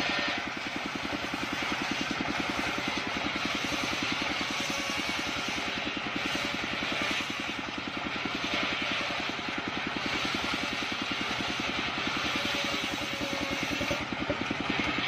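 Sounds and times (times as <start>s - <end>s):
engine running with rapid pulsing: 0.0s - 15.0s.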